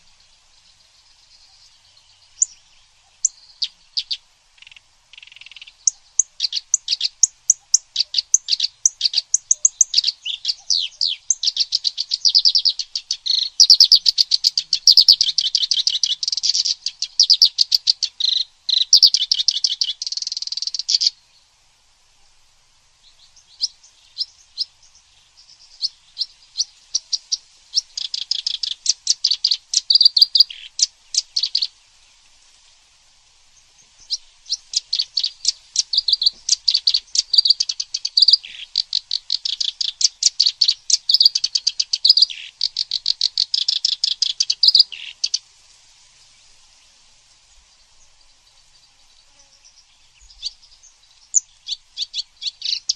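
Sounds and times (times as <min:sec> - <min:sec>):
bird chirps and trills: 0:00.1 - 0:21.3, 0:23.0 - 0:32.1, 0:33.6 - 0:45.4, 0:47.8 - 0:52.9.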